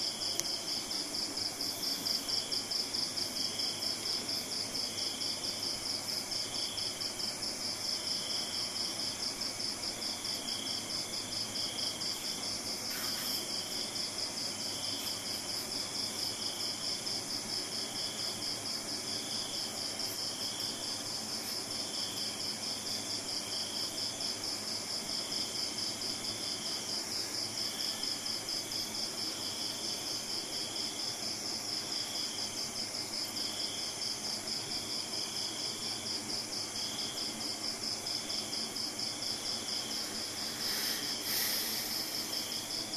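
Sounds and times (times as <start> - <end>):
lower insect chirp: 0.0 - 42.9.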